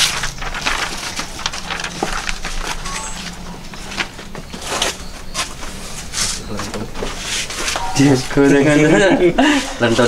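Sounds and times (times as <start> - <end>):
paper and leaves crinkling: 0.0 - 9.0.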